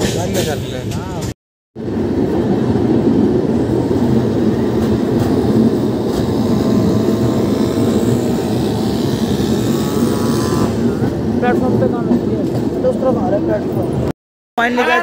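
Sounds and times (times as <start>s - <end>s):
train wheels rumbling on rails: 0.0s - 14.1s.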